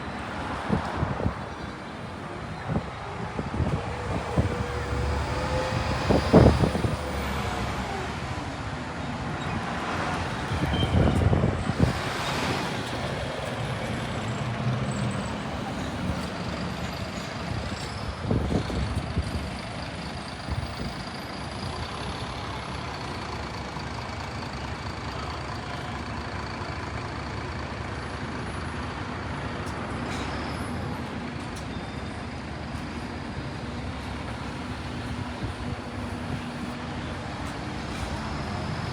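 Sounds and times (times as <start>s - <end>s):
steady traffic hum: 0.0s - 38.9s
vehicles passing close by: 0.0s - 38.9s.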